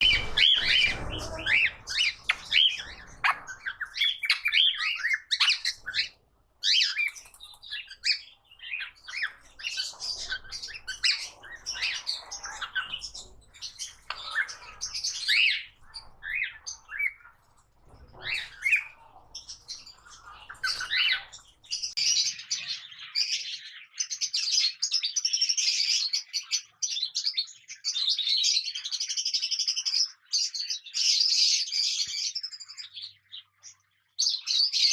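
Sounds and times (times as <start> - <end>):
cockatiels chirping and squawking: 0.0 - 34.9.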